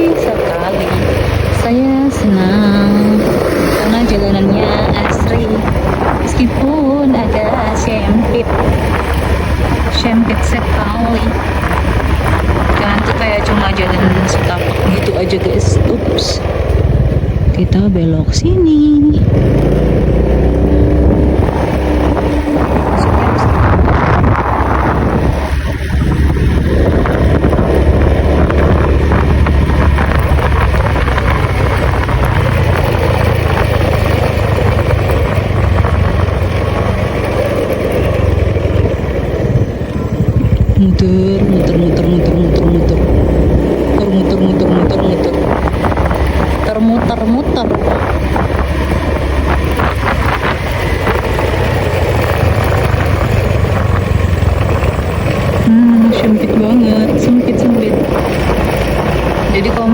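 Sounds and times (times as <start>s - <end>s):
vehicle engine running: 0.0s - 59.9s
wind rumbling on microphone: 0.0s - 59.9s.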